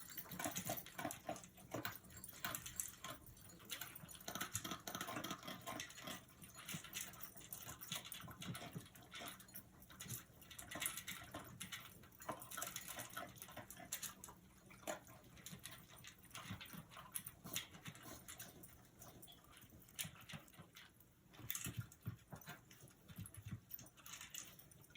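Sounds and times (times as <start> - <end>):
dog crunching dry kibble: 0.0 - 24.9.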